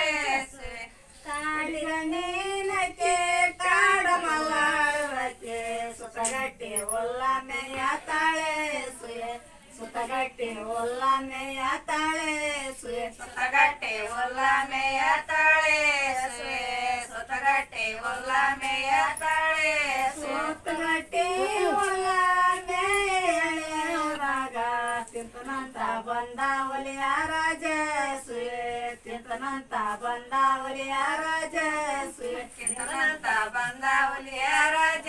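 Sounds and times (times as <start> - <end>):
woman singing unaccompanied: 0.0 - 35.0.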